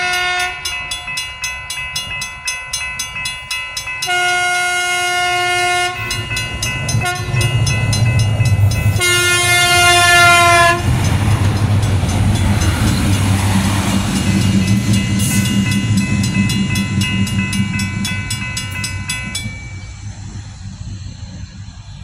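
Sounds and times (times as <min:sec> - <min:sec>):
crossing warning bells ringing: 0:00.0 - 0:22.0
diesel train engine drone: 0:00.0 - 0:22.0
train wheel rumble: 0:00.0 - 0:22.0.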